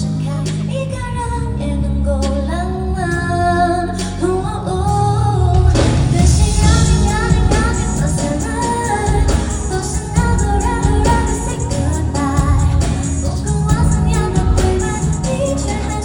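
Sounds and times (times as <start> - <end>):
backing music: 0.0 - 16.0
woman singing pop song: 0.0 - 16.0.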